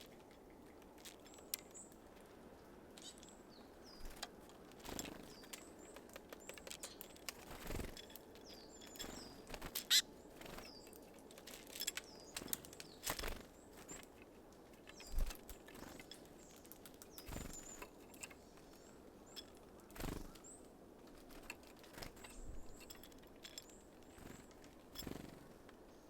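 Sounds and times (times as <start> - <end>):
birds clicking and thumping at feeder: 0.0 - 2.3, 2.9 - 25.9
small birds calling: 0.0 - 26.0.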